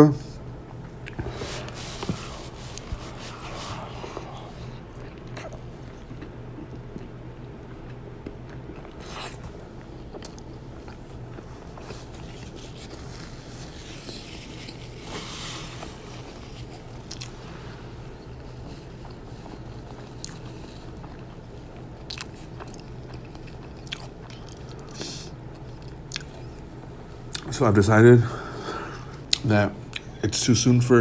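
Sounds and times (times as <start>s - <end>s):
steady low hum: 0.0s - 31.0s
person chewing crunchy food: 0.9s - 26.7s.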